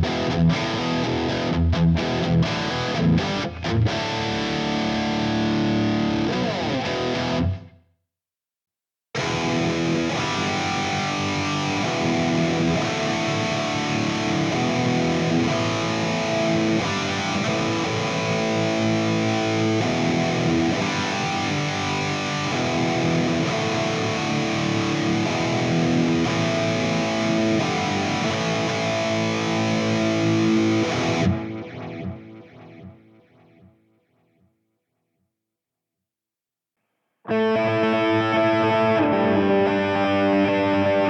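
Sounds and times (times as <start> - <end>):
electric guitar chords: 0.0 - 7.7, 9.2 - 33.8, 37.3 - 41.0.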